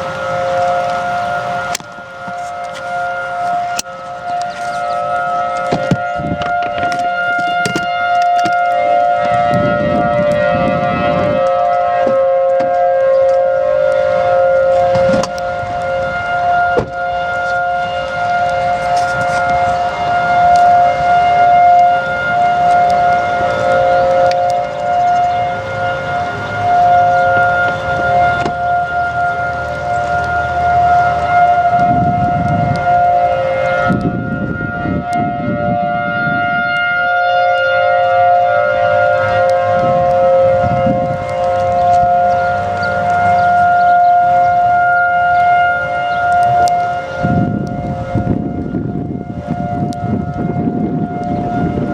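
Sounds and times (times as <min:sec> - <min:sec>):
tornado warning sirens: 0:00.0 - 0:51.9.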